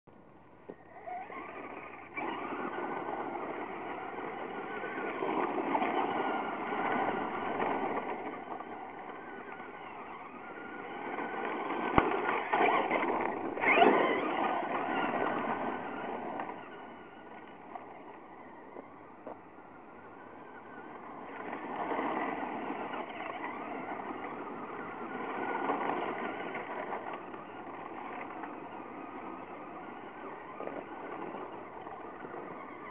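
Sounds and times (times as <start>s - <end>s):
toy truck rushing over gravel: 0.6s - 32.9s.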